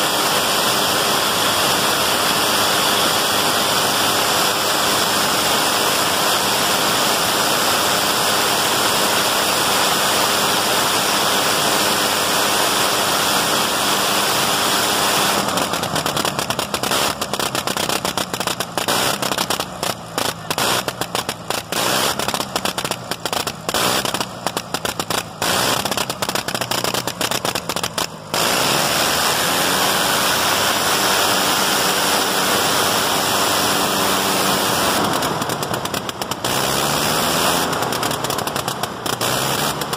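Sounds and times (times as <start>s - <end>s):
aircraft engine running and stuttering: 0.0s - 39.9s.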